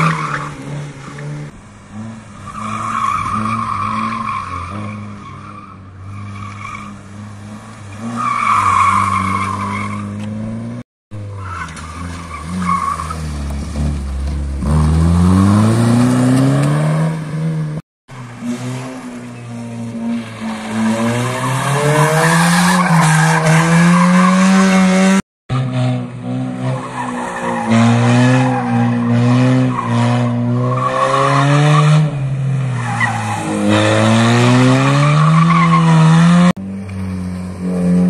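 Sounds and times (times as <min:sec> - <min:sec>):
car engines revving hard: 0:05.9 - 0:38.0.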